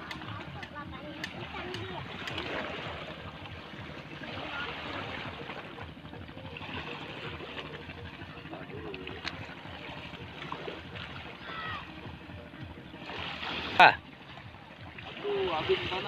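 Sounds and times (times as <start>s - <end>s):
water lapping against seawall: 0.0s - 16.0s.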